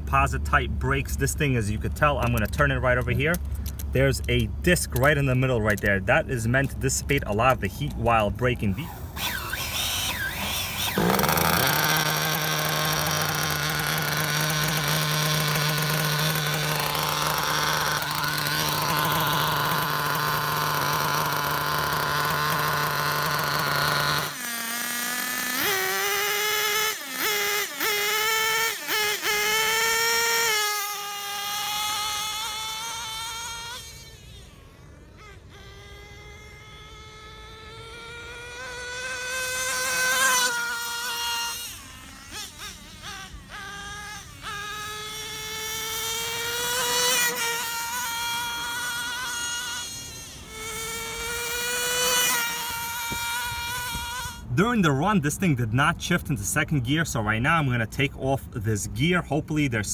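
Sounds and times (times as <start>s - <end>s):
model car nitro engine: 0.0s - 58.0s
engine throttle blips: 0.0s - 59.9s.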